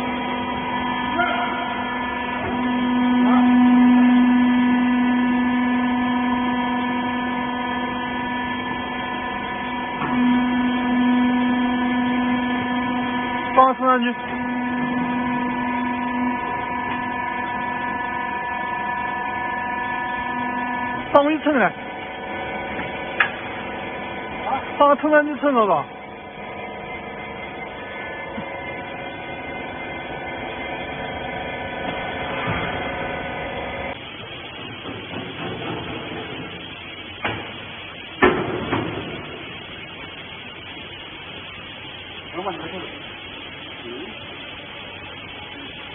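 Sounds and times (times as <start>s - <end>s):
hydraulic motor and pump hum: 0.0s - 45.9s.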